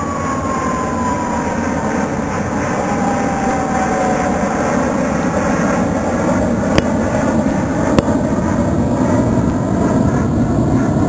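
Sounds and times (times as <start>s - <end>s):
aircraft passing overhead: 0.0s - 11.0s.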